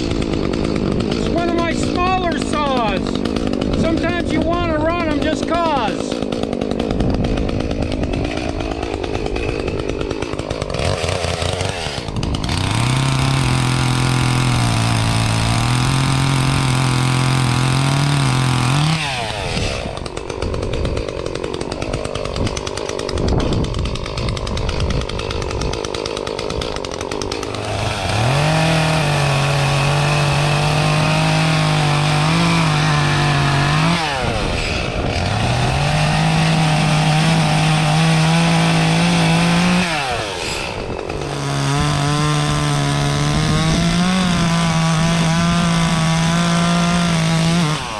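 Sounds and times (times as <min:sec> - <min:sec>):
chainsaw revving while cutting: 0:00.0 - 0:47.9.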